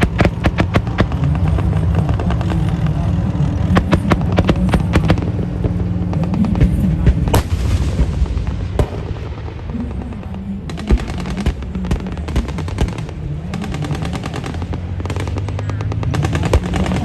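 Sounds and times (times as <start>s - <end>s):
machine gun fire: 0.0s - 17.0s
steady low hum: 0.0s - 17.0s.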